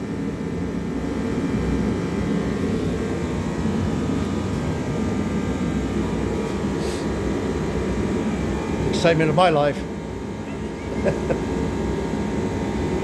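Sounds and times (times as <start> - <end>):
faint steady whining tones: 0.0 - 13.0
motor droning: 0.0 - 13.0.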